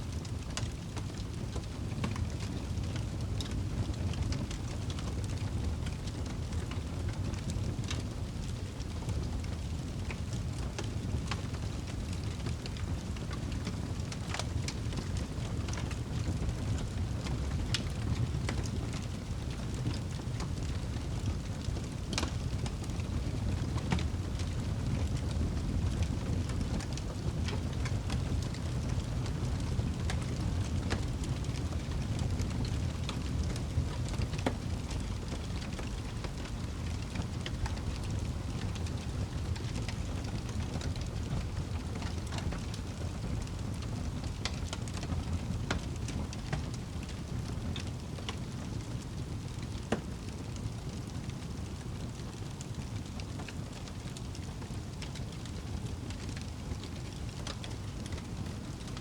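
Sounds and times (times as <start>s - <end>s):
fire crackling and popping: 0.0s - 59.0s
flames rumbling: 0.0s - 59.0s.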